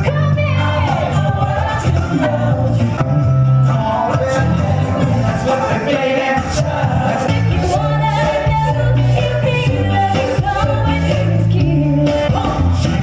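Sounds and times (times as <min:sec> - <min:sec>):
repeating bass line: 0:00.0 - 0:13.0.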